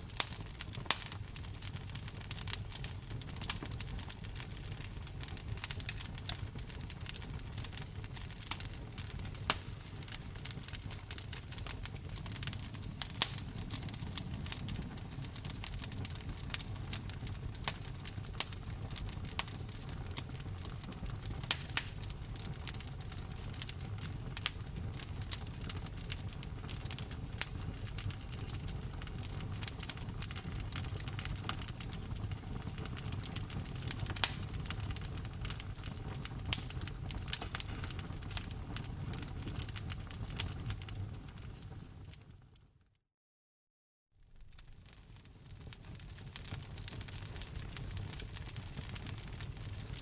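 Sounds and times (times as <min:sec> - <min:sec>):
wood fire crackling: 0:00.0 - 0:42.4, 0:44.2 - 0:50.0
low rumble of burning logs: 0:00.0 - 0:42.6, 0:44.3 - 0:50.0.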